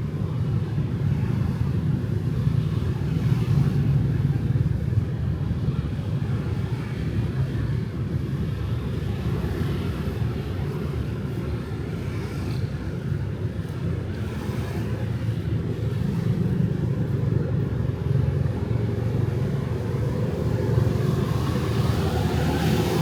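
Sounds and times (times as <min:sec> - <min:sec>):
motorbikes and cars passing: 0:00.1 - 0:23.0.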